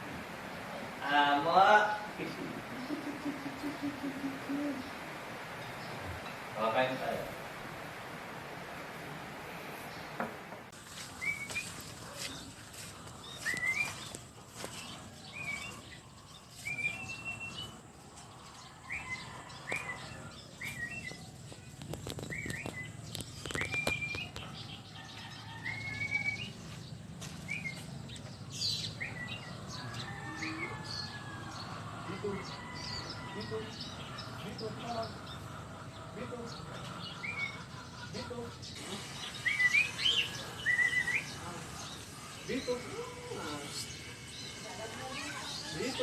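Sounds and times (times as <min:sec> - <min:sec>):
bird chirping: 0:00.0 - 0:08.0, 0:09.7 - 0:46.0.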